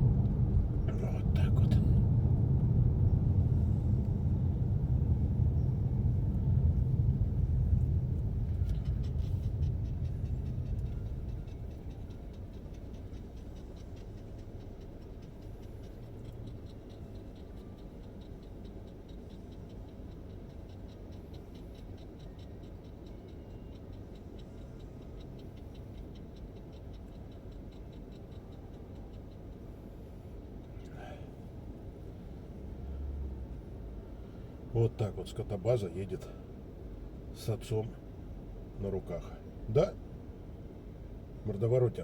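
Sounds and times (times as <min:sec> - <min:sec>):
car engine hum: 0:00.0 - 0:42.0
road rumble: 0:00.0 - 0:42.0
turn signal ticking: 0:00.0 - 0:42.0.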